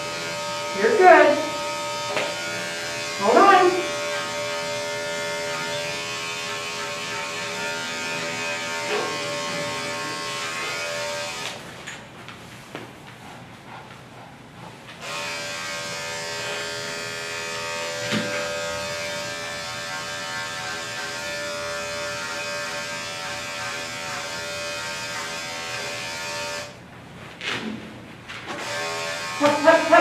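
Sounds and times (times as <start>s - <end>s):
electric clipper humming: 0.0s - 11.7s, 15.0s - 26.8s, 28.5s - 30.0s.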